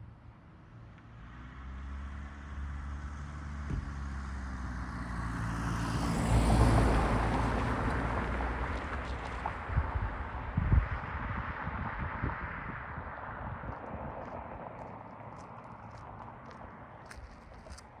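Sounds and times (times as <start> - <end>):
vehicle engine passing by: 1.3 - 18.0.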